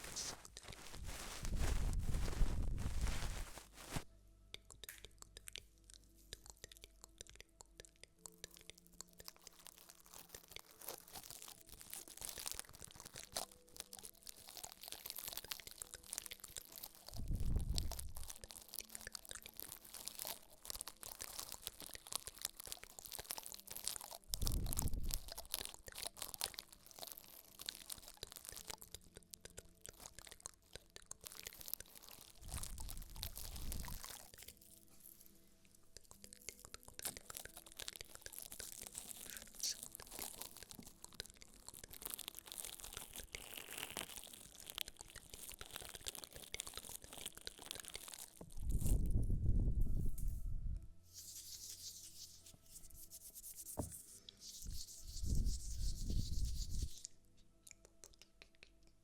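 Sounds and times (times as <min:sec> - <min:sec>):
asmr crackling and crinkling: 0:00.0 - 0:50.4, 0:51.0 - 0:59.0.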